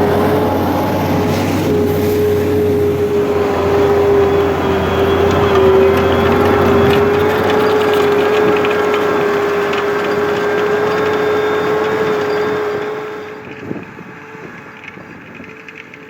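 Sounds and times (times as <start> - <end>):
engine whine: 0.0 - 16.0
tractor diesel engine under load: 0.0 - 16.0.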